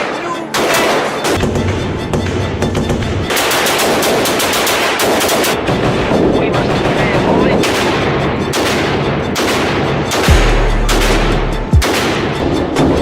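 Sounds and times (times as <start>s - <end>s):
rapid gunfire: 0.0s - 13.0s.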